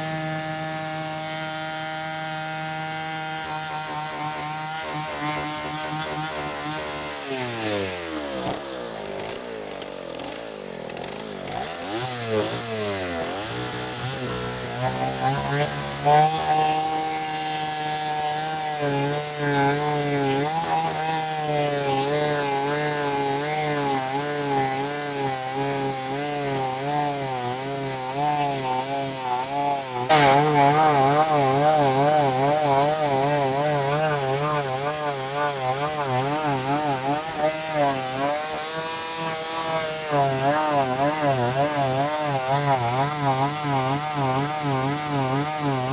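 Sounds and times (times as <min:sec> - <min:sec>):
chainsaw cutting through log: 0:00.0 - 0:45.9.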